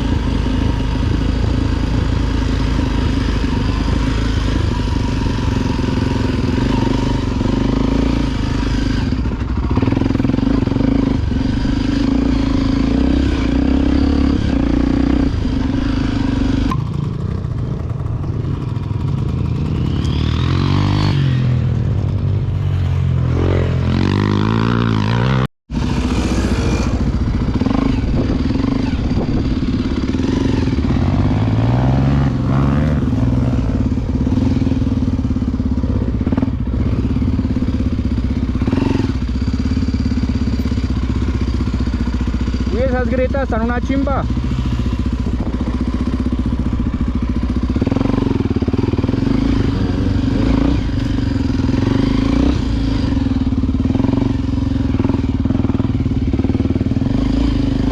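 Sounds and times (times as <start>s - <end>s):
motorbike engine revving: 0.0s - 57.9s.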